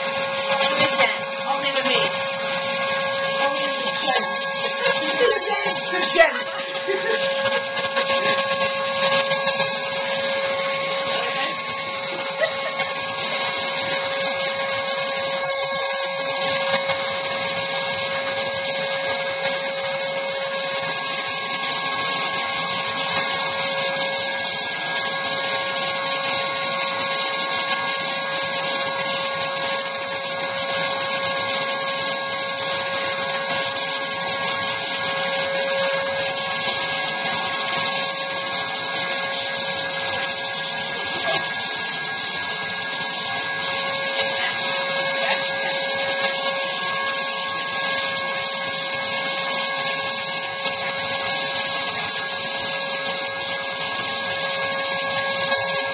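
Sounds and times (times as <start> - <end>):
airbrush machine motor whine: 0.0 - 55.9.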